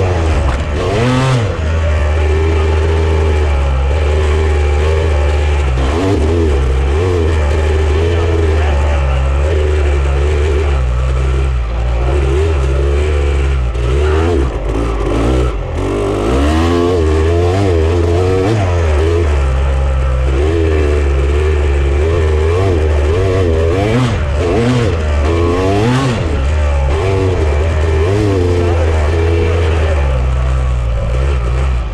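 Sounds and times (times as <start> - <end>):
off-road vehicle engine revving: 0.0 - 31.9
vehicle rattling: 0.0 - 31.9.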